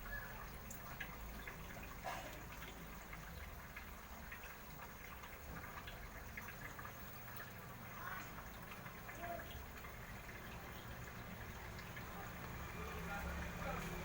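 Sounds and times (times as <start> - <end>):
low pump hum: 0.0 - 14.0
water trickling and splashing: 0.0 - 14.0.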